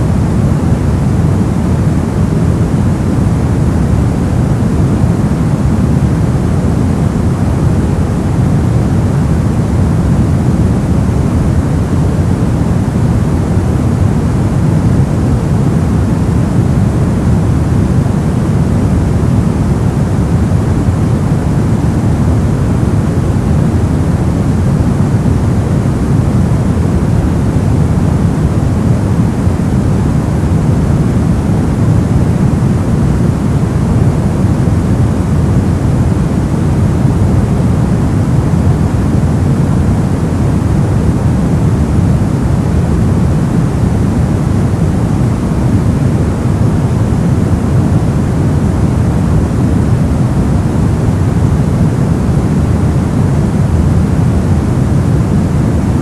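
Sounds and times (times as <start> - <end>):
brown noise: 0.0 - 56.0.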